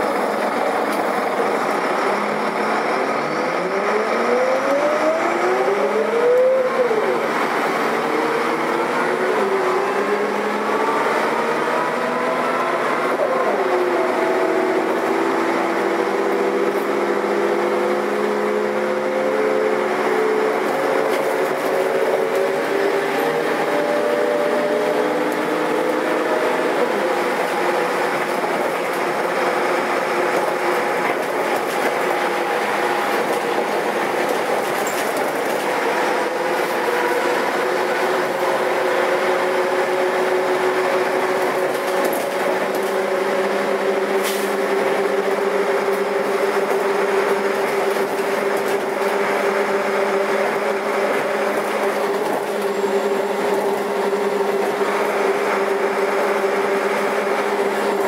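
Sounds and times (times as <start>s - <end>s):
bus engine and drivetrain drone: 0.0s - 58.0s.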